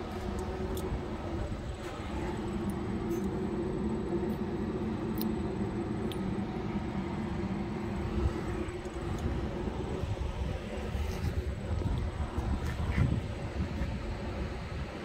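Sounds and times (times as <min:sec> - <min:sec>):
mechanical drone: 0:00.0 - 0:15.0.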